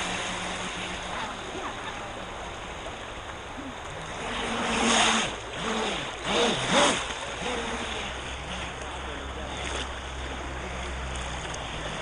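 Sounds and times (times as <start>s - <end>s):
model boat motor revving: 0.0s - 12.0s
river water rushing: 0.0s - 12.0s
rushing water from jet: 0.0s - 12.0s.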